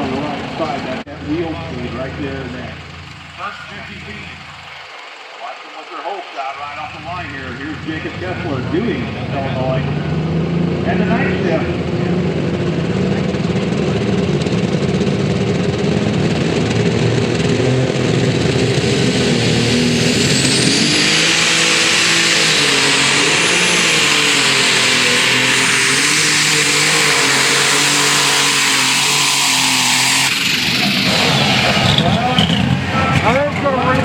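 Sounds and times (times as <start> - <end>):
high engine whine: 0.0 - 34.0
tractor engine running hard: 0.0 - 34.0.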